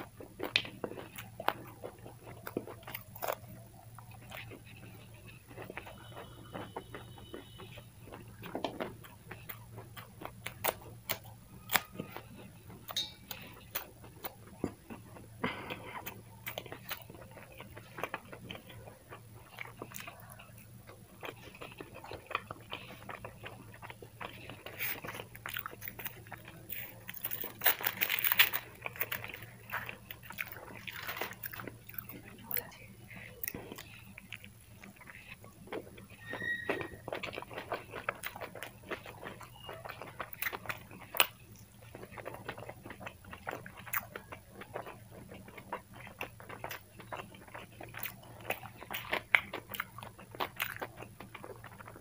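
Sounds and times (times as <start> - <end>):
person chewing: 0.0 - 52.0.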